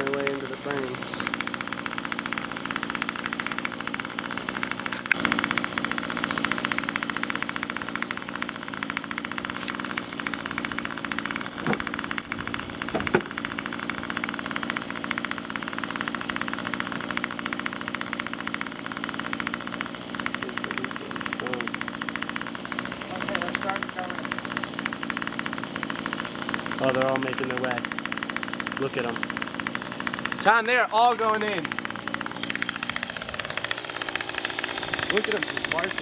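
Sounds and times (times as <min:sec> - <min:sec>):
bee swarm buzzing: 0:00.0 - 0:36.0.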